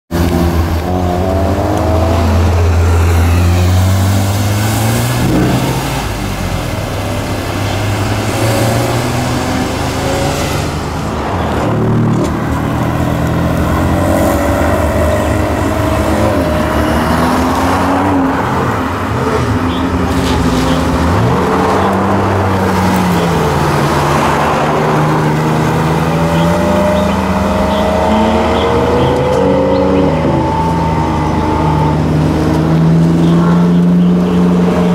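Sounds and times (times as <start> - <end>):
sports car engines accelerating: 0.1 - 34.9.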